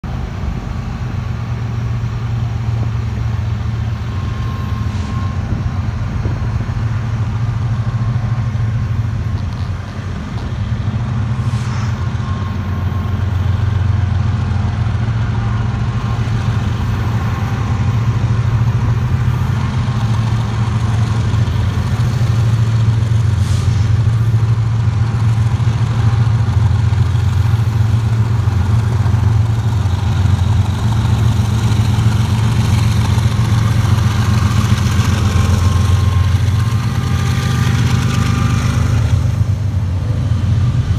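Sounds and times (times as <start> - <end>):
diesel locomotives rumbling: 0.0 - 40.9.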